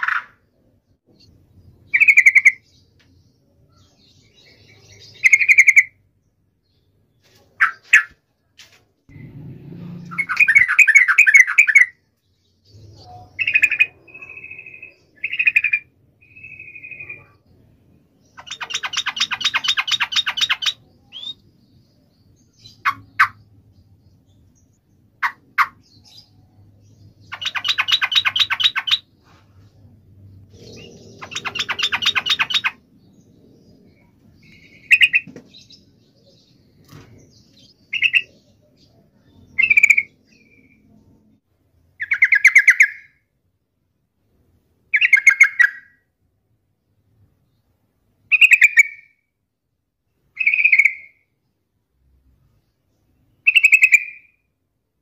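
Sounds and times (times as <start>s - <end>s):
bird singing and chattering: 0.0s - 8.2s, 10.0s - 29.2s, 29.8s - 41.1s, 41.9s - 43.2s, 44.9s - 46.0s, 48.3s - 49.2s, 50.3s - 51.4s, 52.6s - 54.4s.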